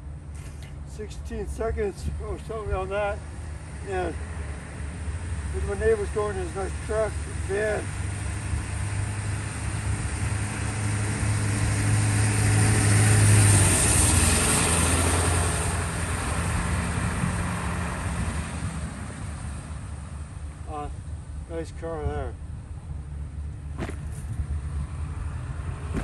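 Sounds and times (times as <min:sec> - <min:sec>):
cars driving past: 0:00.0 - 0:21.4, 0:22.9 - 0:26.0.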